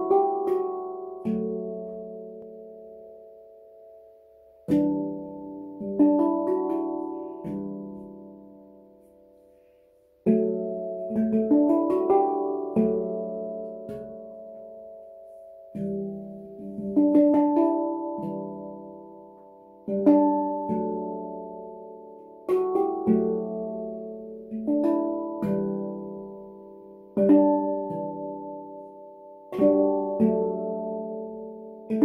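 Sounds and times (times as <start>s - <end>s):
handpan notes ringing: 0.0s - 32.0s.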